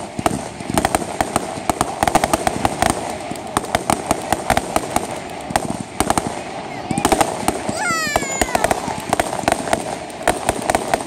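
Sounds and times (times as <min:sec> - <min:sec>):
fireworks pops and bangs: 0:00.0 - 0:11.0.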